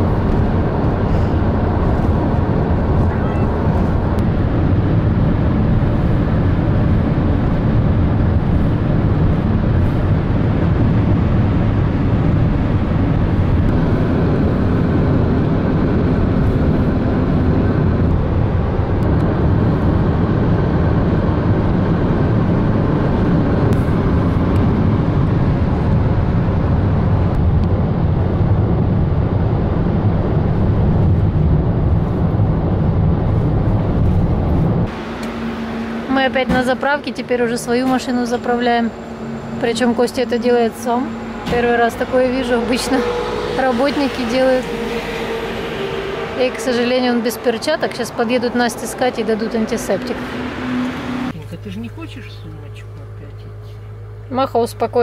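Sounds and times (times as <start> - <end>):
car road tyre and wind noise: 0.0 - 51.6.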